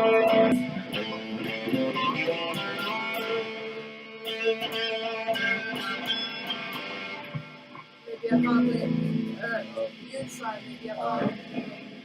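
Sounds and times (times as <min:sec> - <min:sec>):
distorted electric guitar notes: 0:00.0 - 0:12.0.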